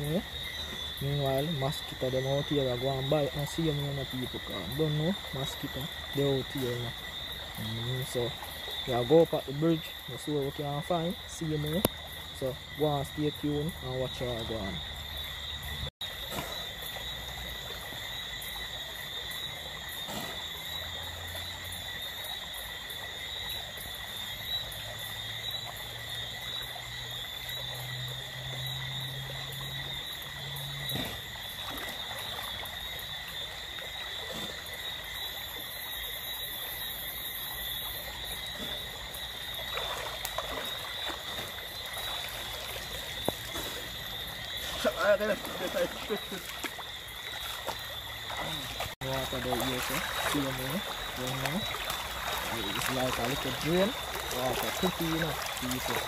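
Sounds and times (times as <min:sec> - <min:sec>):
frogs croaking: 0:00.0 - 0:56.0
high-pitched insect drone: 0:00.0 - 0:56.0.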